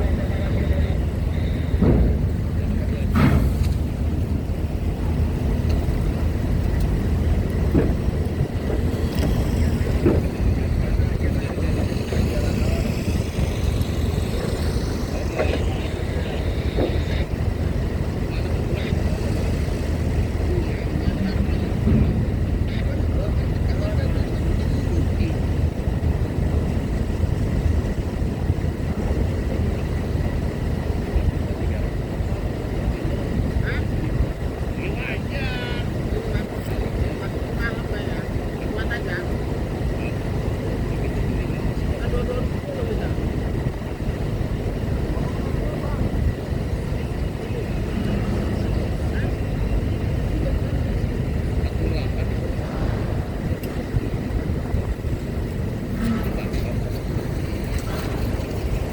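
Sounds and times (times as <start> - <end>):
truck and car engines rumbling: 0.0 - 58.9.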